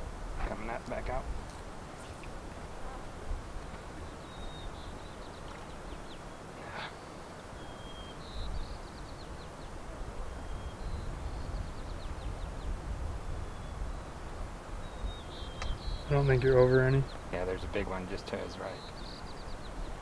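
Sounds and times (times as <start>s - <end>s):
small bird calling: 1.5s - 12.8s, 13.4s - 20.0s.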